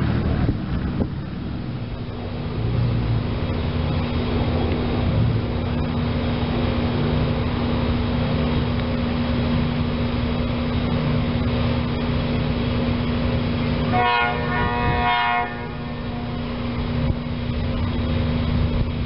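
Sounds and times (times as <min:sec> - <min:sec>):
distant train rumble: 0:00.0 - 0:19.0.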